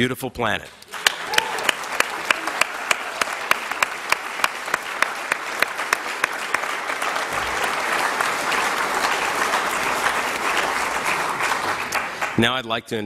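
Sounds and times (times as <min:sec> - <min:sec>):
loud close hand claps: 0:00.7 - 0:12.6
audience applauding: 0:00.8 - 0:12.7.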